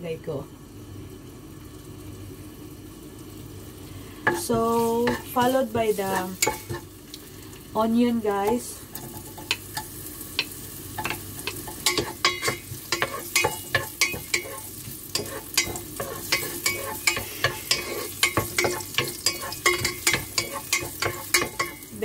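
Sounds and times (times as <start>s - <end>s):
onion and ginger frying in oil: 0.0s - 22.0s.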